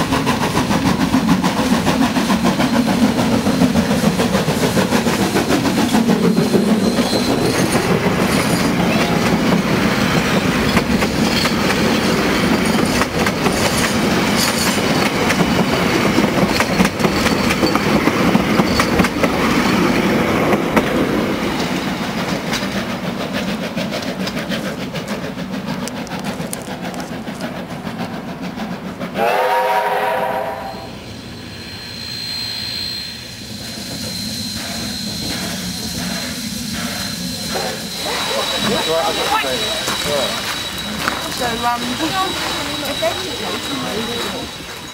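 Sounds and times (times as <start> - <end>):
wheels clicking over rail joints: 0.0 - 29.2, 35.2 - 44.9
steam locomotive passing: 0.0 - 44.9.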